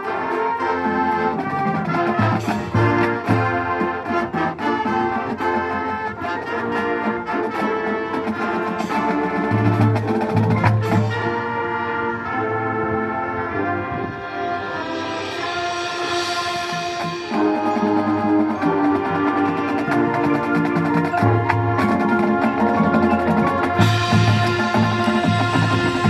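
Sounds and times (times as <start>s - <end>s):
brass section playing: 0.0s - 26.0s.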